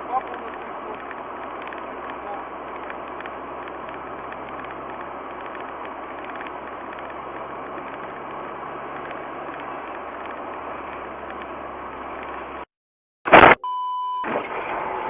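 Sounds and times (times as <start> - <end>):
faint low engine hum: 0.0 - 12.7.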